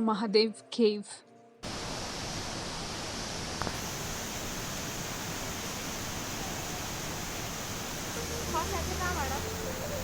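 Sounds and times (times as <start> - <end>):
waterfall rushing: 1.6 - 10.0.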